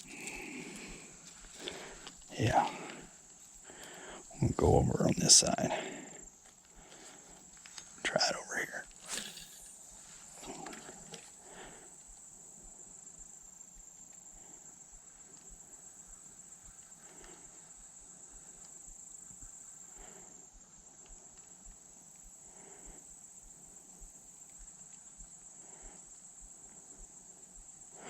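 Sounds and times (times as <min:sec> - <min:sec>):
insects chirping: 0:00.0 - 0:28.0.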